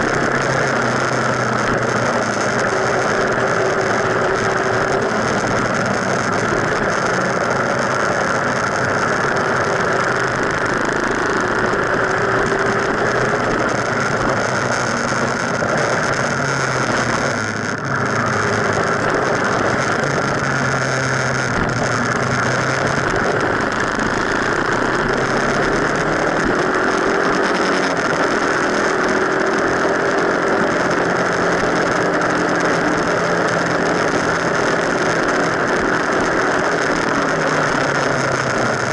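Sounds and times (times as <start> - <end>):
motorcycle engine: 0.0 - 38.9
wind and road noise: 0.0 - 38.9.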